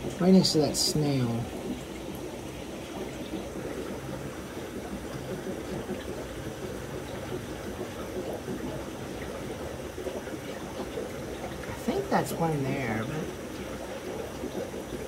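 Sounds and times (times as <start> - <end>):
aquarium filter bubbling water: 0.0 - 15.0.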